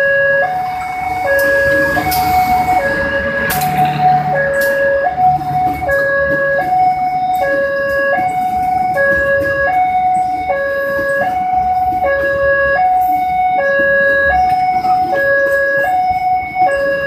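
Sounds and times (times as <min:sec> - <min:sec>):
train carriages rumbling on rails: 0:00.0 - 0:17.0.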